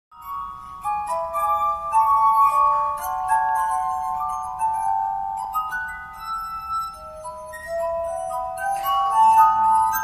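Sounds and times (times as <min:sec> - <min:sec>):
glass harp melody: 0:00.1 - 0:10.0.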